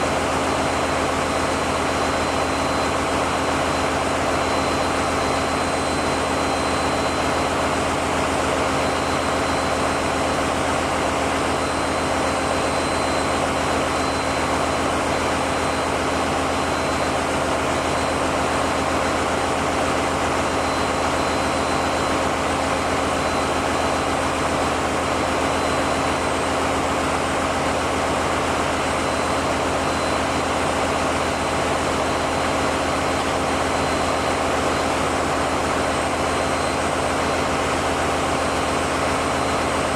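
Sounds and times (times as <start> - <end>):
diesel generator engines running: 0.0 - 39.9.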